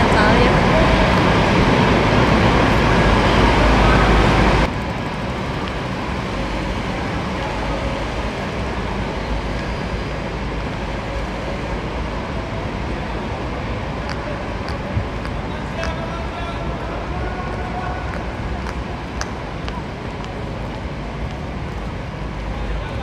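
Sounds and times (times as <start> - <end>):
city street traffic noise: 0.0 - 23.0.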